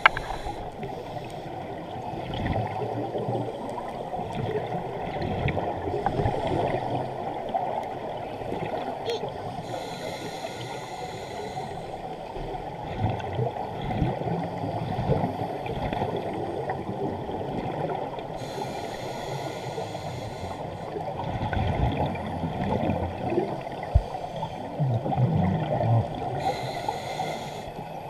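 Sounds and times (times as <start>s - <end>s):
underwater bubbles gurgling: 0.0s - 28.0s.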